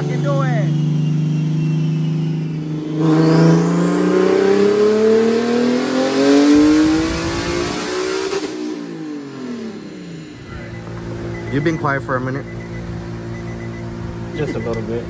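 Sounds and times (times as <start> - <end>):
turbo engine revving: 0.0 - 15.0.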